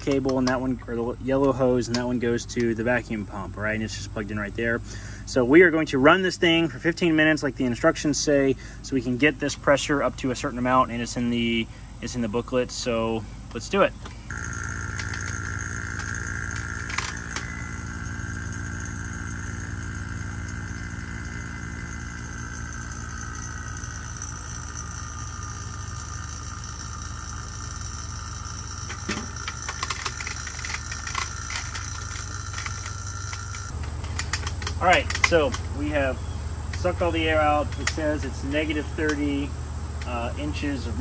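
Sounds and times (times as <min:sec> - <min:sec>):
vacuum pump humming and whining: 0:00.0 - 0:41.0.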